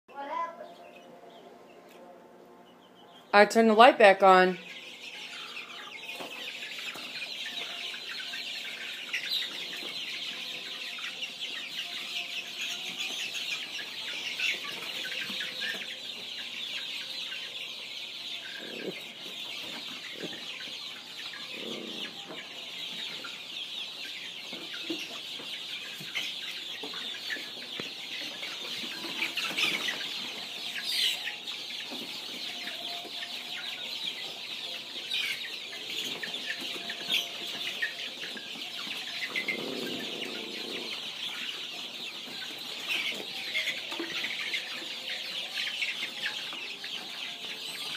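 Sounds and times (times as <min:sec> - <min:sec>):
chicks peeping: 0:00.1 - 0:47.9.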